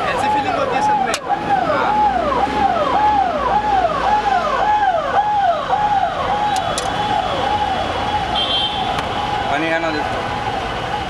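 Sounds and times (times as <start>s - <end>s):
siren yelping: 0.0s - 11.0s.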